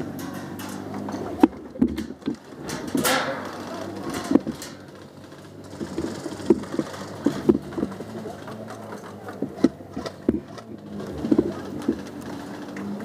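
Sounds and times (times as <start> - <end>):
handling knocks and bumps: 0.0 - 13.0.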